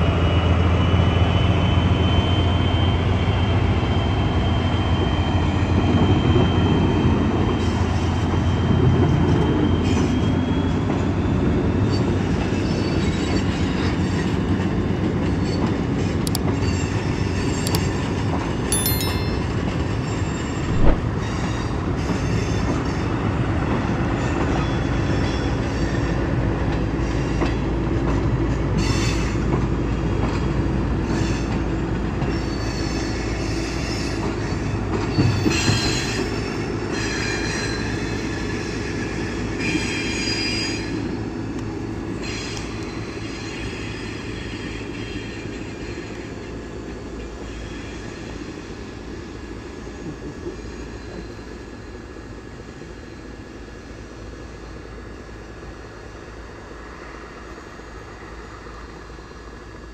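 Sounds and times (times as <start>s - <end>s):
train rumbling on rails: 0.0s - 18.7s, 19.4s - 59.9s.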